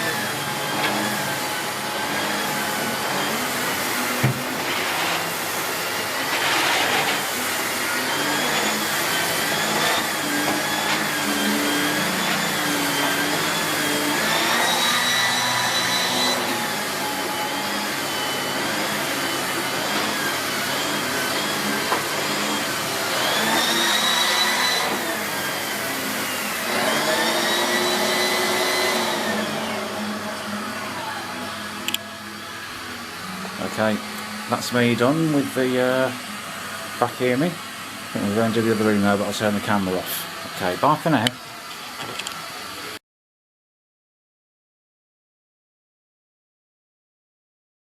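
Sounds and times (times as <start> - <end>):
vacuum cleaner motor whine: 0.0 - 43.0.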